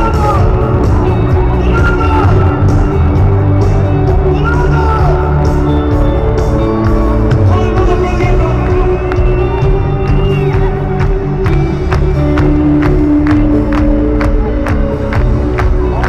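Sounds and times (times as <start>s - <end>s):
worship band music over loudspeakers: 0.0s - 16.0s.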